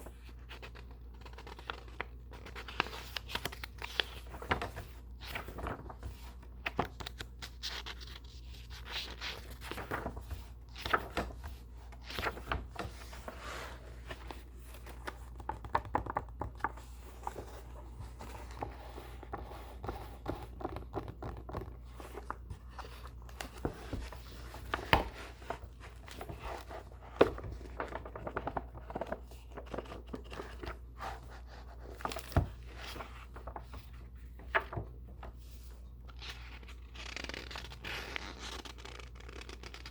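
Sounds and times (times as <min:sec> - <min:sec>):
book pages rustling: 0:00.0 - 0:39.9.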